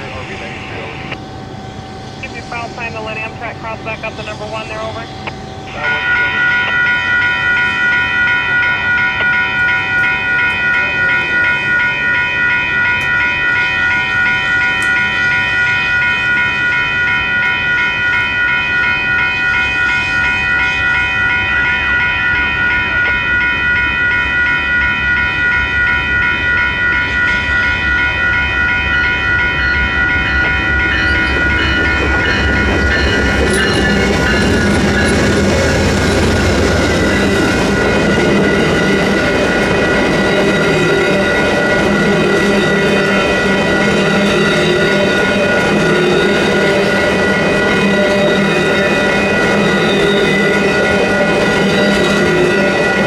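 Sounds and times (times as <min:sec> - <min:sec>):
railroad crossing bells ringing: 0:00.0 - 0:53.0
train rumbling: 0:00.0 - 0:53.0.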